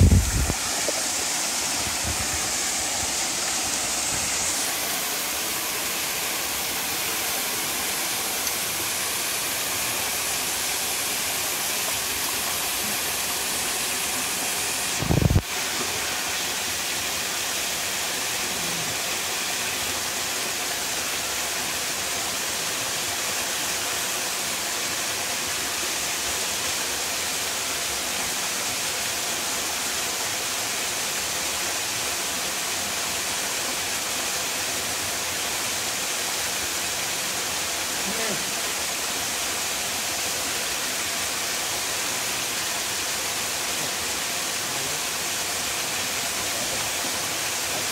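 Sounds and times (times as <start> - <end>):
waterfall pouring into pool: 0.0 - 47.9.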